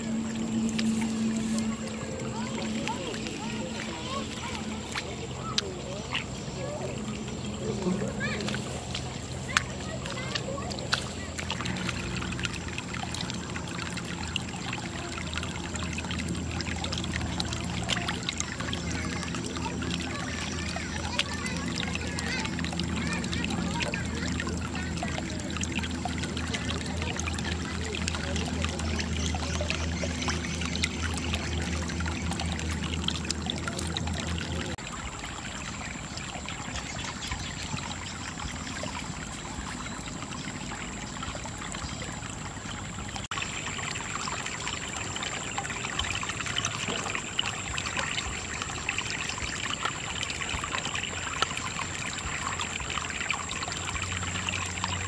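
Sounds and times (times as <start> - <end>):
water pouring and splashing: 0.0 - 55.0.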